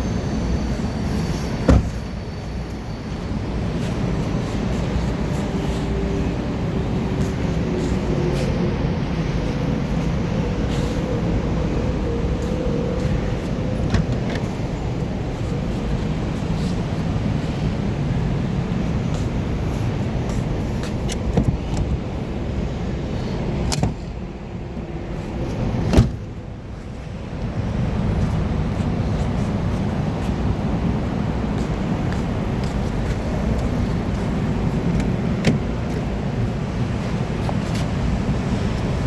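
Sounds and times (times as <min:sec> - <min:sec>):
car rumbling: 0:00.0 - 0:39.0.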